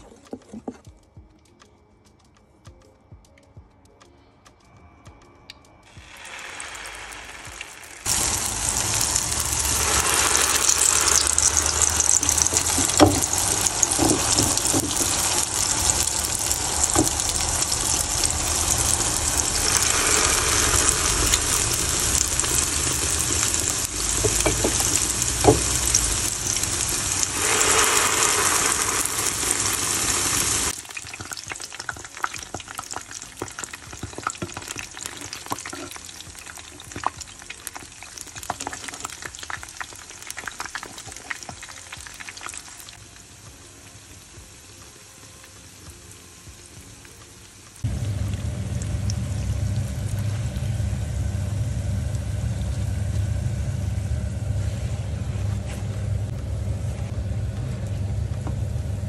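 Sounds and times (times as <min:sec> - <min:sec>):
deep-frying sizzle in oil: 0:05.8 - 0:59.0.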